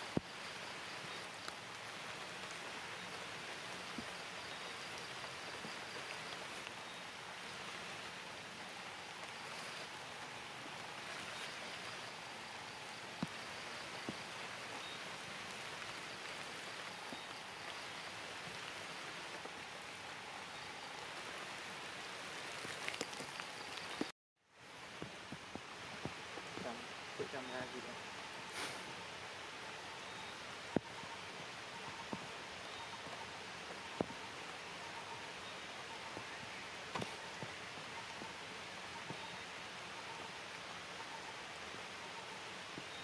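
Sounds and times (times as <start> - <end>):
rain falling on leaves: 0.0 - 43.0.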